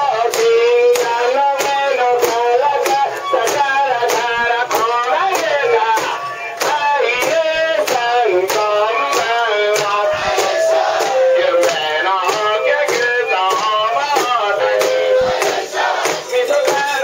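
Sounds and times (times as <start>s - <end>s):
men singing and chanting: 0.0s - 17.0s
sharp rhythmic clacks: 0.0s - 17.0s.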